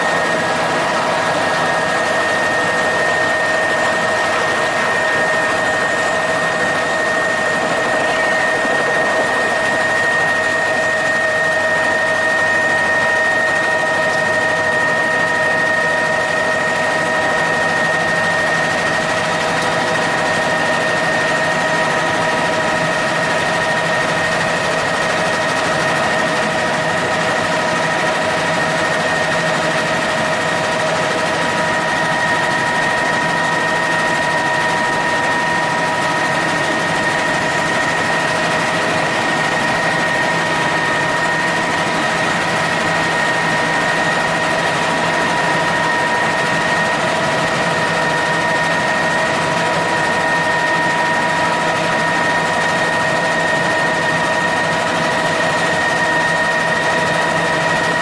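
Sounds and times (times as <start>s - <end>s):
helicopter in flight: 0.0s - 58.0s.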